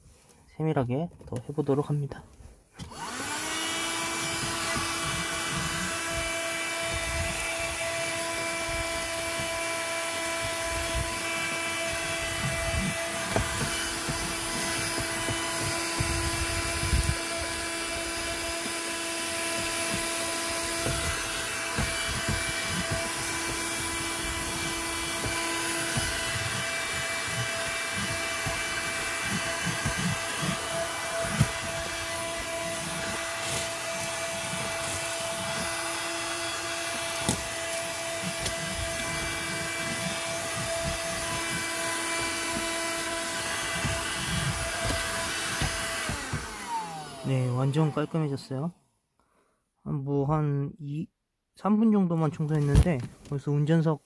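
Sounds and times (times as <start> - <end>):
vacuum cleaner motor whine: 2.8 - 48.4.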